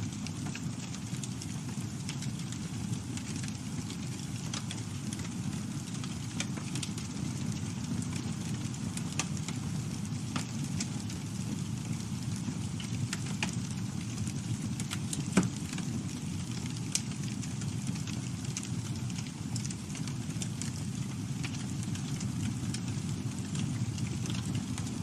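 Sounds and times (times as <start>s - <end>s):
burning wood crackling and popping: 0.0s - 25.0s
low rumble of flame: 0.0s - 25.0s.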